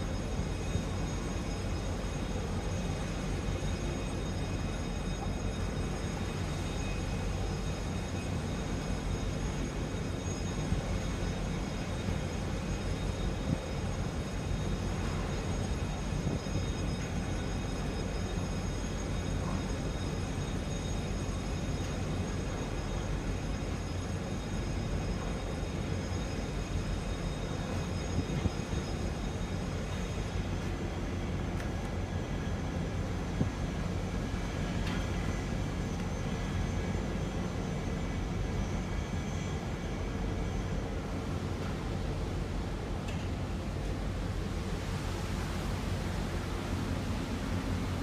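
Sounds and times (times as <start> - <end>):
faint high whining tones: 0.0 - 48.0.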